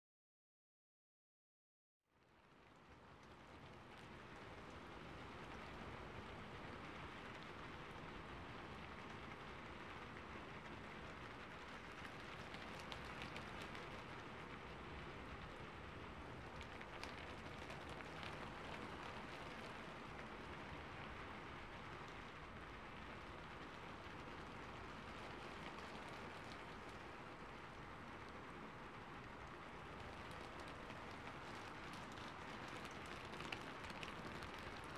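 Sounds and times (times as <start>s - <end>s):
steady rain: 2.1s - 34.9s.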